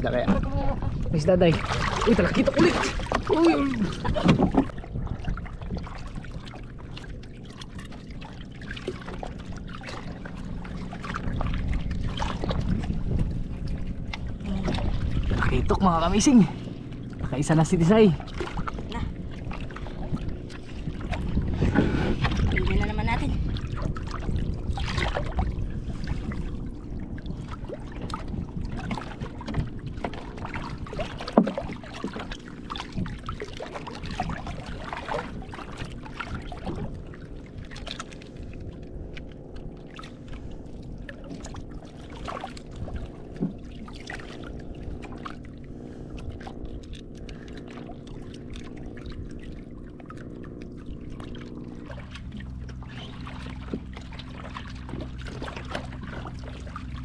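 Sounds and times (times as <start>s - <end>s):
steady low hum: 0.0s - 57.0s
water lapping against boat hull: 0.0s - 57.0s.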